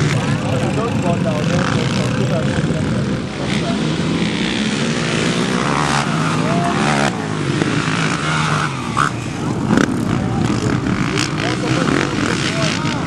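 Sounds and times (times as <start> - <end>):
atv engines revving: 0.0 - 13.0.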